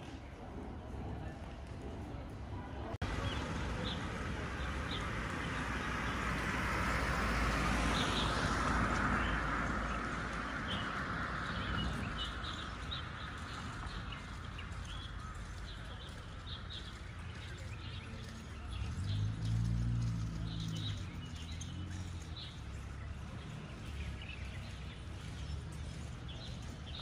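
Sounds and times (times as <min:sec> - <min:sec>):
broad rushing outdoor noise: 0:00.0 - 0:27.0
small birds chirping: 0:03.0 - 0:27.0.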